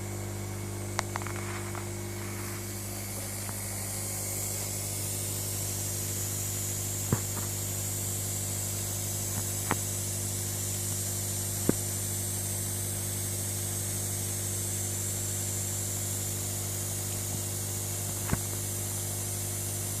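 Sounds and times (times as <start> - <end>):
low pump hum: 0.0 - 19.9
mist spray hiss: 2.0 - 19.5.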